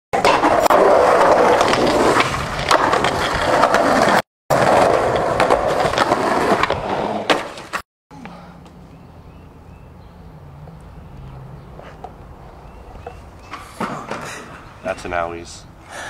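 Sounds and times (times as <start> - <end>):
skateboard wheels rolling on concrete: 0.2 - 7.8, 8.6 - 16.0.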